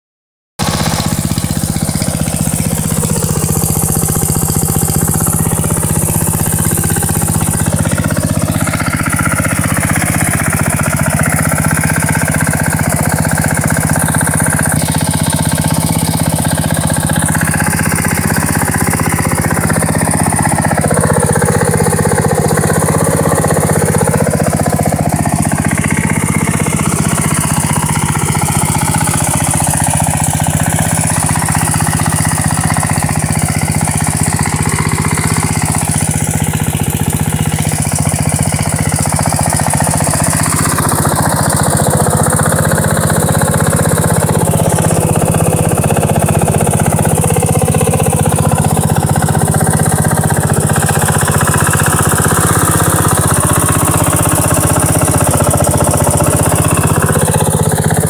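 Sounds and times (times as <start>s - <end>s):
lawn tractor engine idling: 0.6s - 58.0s.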